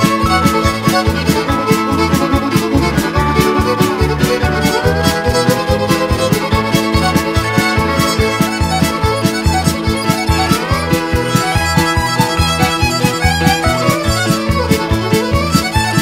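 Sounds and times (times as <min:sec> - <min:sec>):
sliding lead melody: 0:00.0 - 0:16.0
drum beat: 0:00.1 - 0:15.6.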